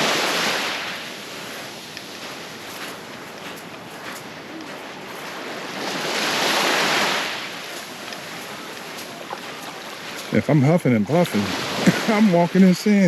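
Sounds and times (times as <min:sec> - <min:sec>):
wave breaking on beach: 0:00.0 - 0:13.0.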